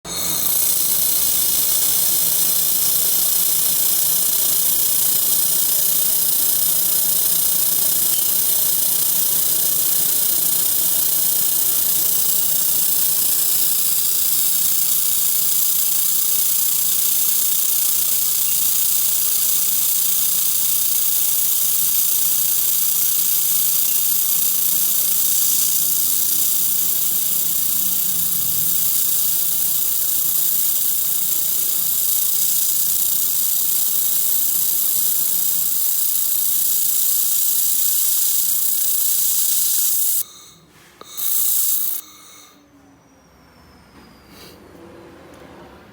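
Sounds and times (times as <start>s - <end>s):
laser welder hissing: 0.0s - 42.6s.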